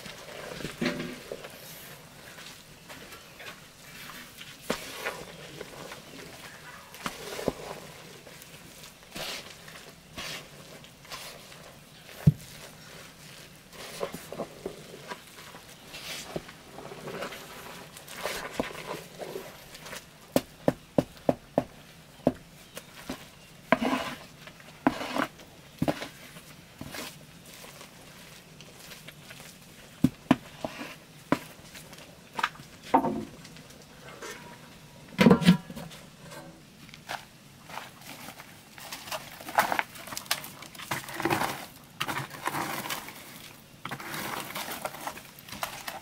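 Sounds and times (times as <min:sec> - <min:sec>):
wet scraping of stirred mash: 0:00.0 - 0:20.6, 0:22.6 - 0:32.6, 0:33.3 - 0:46.0.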